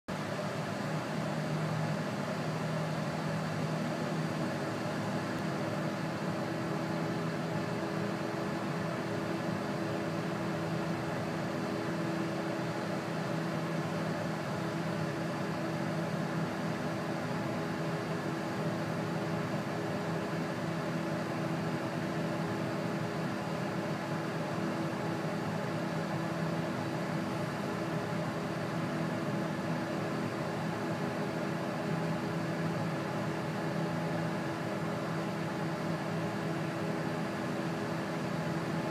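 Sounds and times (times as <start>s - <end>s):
helicopter engine hum and whine: 0.2s - 38.9s.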